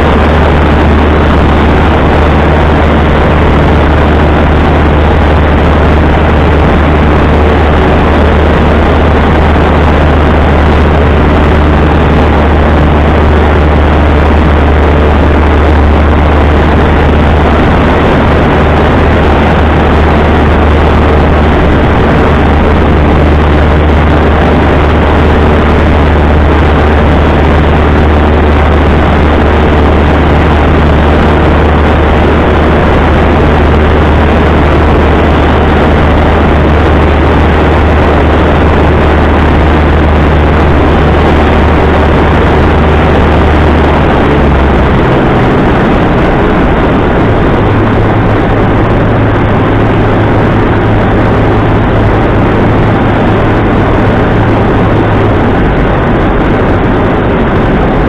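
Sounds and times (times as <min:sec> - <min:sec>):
propeller airplane engine droning: 0:00.0 - 0:58.0.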